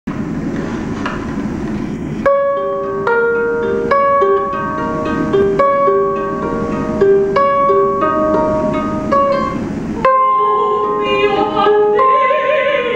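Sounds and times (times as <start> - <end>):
steady background noise: 0.1 - 12.9
ukulele picking slow melody: 1.4 - 12.9.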